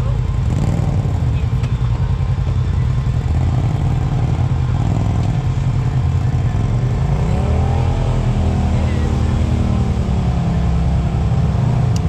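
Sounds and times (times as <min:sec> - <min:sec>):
engine running low drone: 0:00.0 - 0:12.0.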